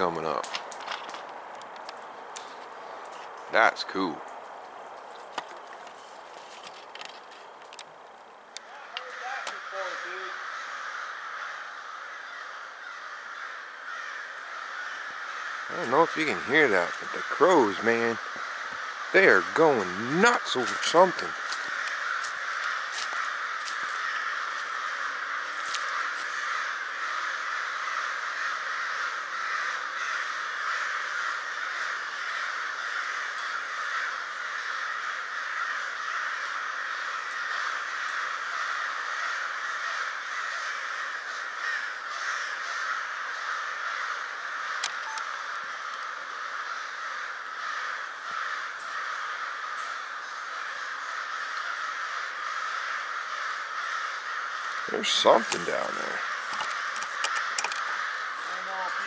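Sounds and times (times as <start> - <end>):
flock of crows cawing: 0.0 - 59.0.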